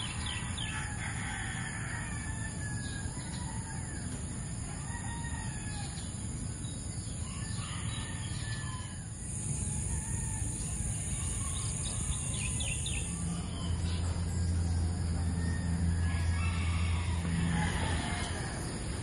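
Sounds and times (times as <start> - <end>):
low background rumble: 0.0 - 19.0
roosters crowing: 0.0 - 19.0.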